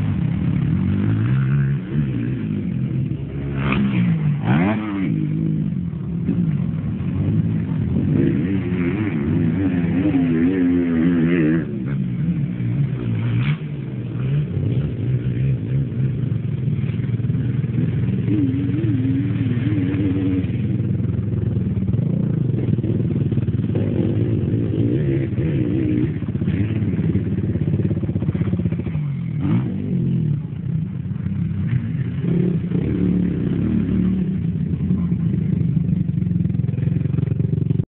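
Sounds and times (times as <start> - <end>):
quad bike engines revving: 0.0 - 37.8.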